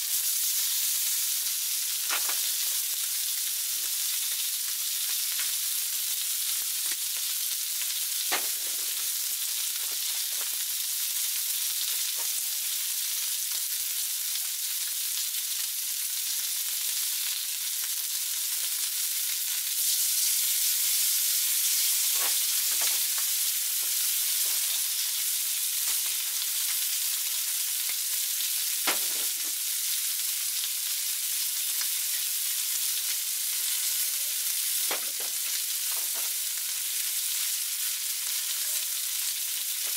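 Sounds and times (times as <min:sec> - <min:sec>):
meat sizzling on a griddle: 0:00.0 - 0:39.9.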